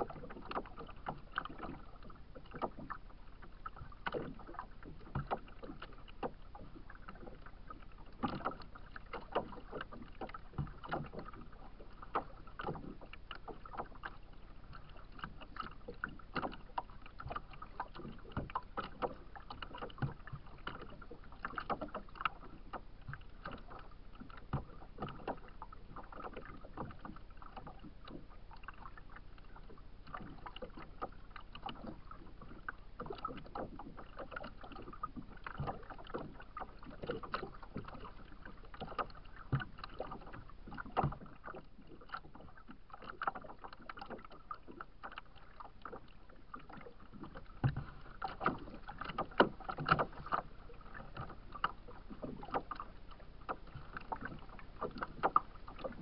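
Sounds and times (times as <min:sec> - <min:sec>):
waves slapping kayak hull: 0:00.0 - 0:56.0.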